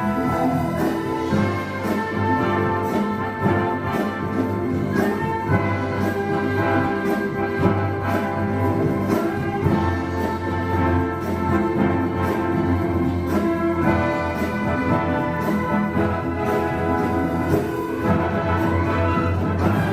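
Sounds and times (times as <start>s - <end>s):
symphony orchestra playing: 0.0s - 19.9s.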